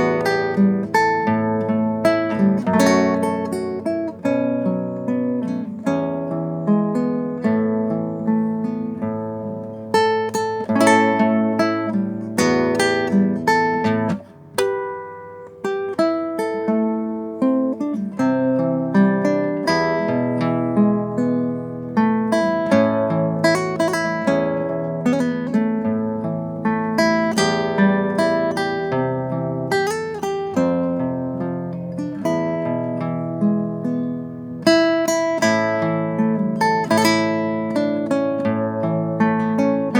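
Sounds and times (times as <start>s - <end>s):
acoustic guitar melody: 0.0s - 39.9s.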